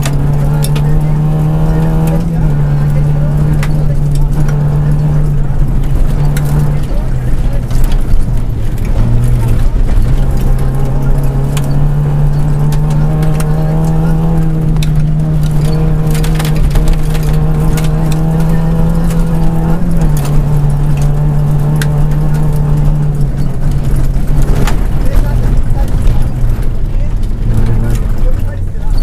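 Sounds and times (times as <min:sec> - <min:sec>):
gravel clattering on underside: 0:00.0 - 0:29.0
rally car engine: 0:00.0 - 0:29.0.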